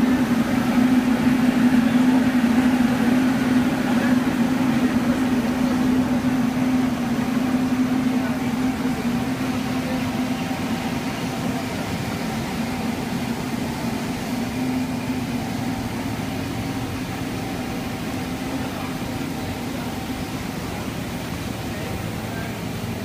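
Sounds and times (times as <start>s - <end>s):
machinery hum: 0.0s - 23.0s.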